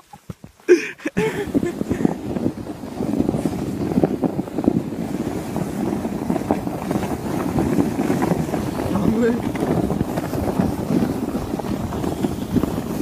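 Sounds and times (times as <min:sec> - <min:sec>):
sled scraping over packed snow: 0:00.0 - 0:13.0.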